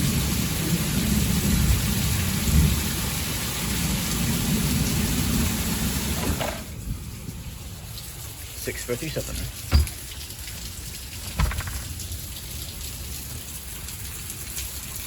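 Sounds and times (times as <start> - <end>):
heavy rain rushing: 0.0 - 15.0
rain patter: 0.0 - 15.0.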